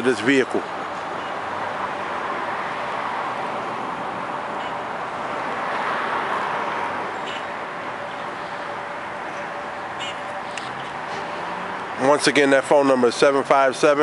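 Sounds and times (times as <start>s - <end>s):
road traffic hiss: 0.0s - 14.0s.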